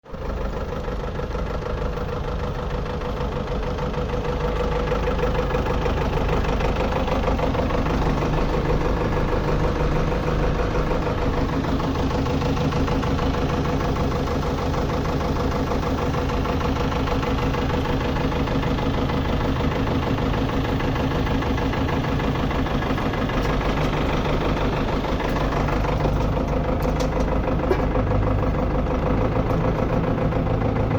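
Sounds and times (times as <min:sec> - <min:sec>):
engine running: 0:00.0 - 0:30.9.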